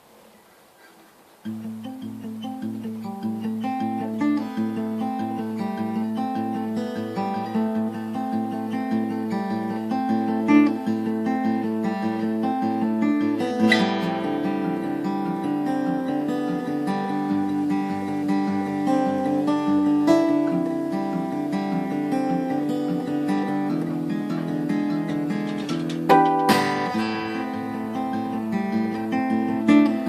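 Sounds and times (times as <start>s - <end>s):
fingerstyle acoustic guitar: 0.0s - 30.0s.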